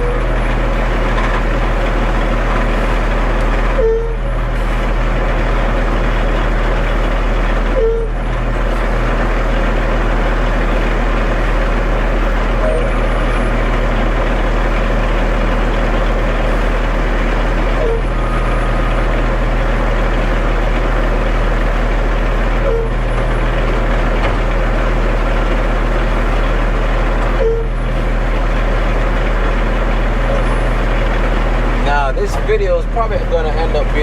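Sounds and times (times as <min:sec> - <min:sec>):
concrete mixer truck running: 0:00.0 - 0:34.0.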